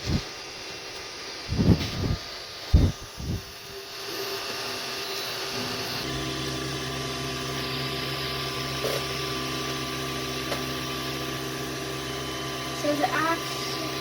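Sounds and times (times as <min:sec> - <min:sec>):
deeper printer hum: 0:00.0 - 0:14.0
fan hiss: 0:00.0 - 0:14.0
printer mechanical hum: 0:00.0 - 0:14.0.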